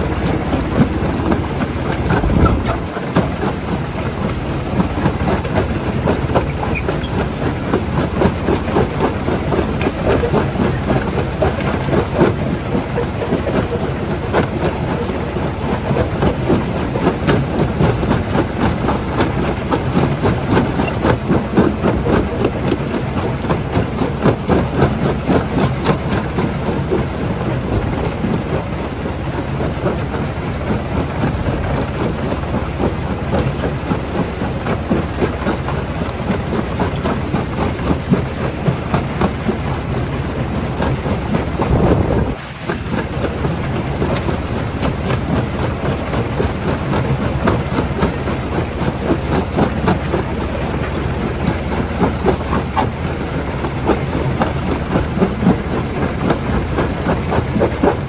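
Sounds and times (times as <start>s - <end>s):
jaw crusher rumble: 0.0s - 58.0s.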